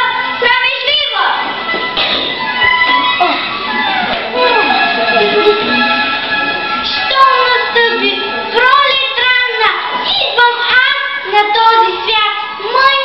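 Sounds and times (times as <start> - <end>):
instrumental accompaniment: 0.0 - 12.9.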